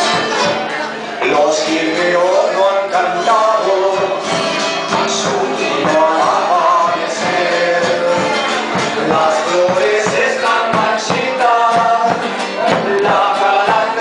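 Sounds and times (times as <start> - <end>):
folk group singing a waltz: 0.0 - 14.0
instrumental accompaniment: 0.0 - 14.0.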